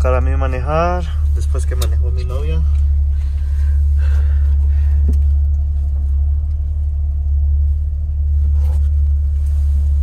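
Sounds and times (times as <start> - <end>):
car engine rumbling while driving: 0.0 - 10.0.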